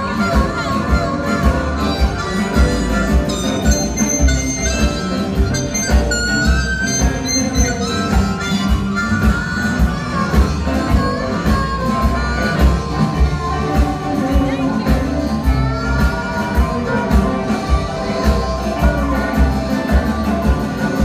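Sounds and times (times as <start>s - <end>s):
acoustic guitar: 0.0s - 21.0s
amplified harmonica: 0.0s - 21.0s
bass beat: 0.0s - 21.0s
drums: 0.0s - 21.0s
electric guitars: 0.0s - 21.0s
saxophones: 0.0s - 21.0s.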